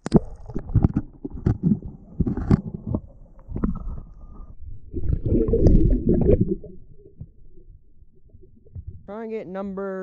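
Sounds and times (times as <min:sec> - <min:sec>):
muffled underwater gurgling: 0:00.0 - 0:09.2.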